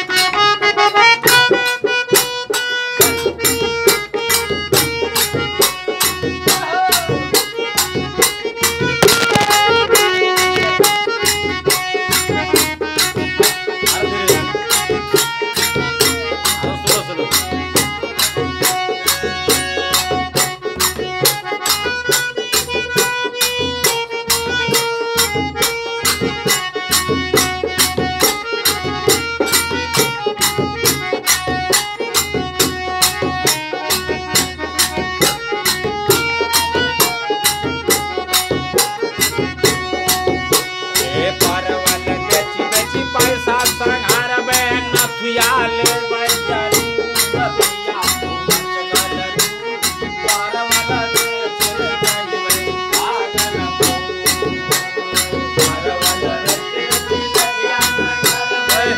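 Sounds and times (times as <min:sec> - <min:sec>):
dholak drum beat: 0:00.0 - 0:58.9
harmonium chords: 0:00.0 - 0:58.9.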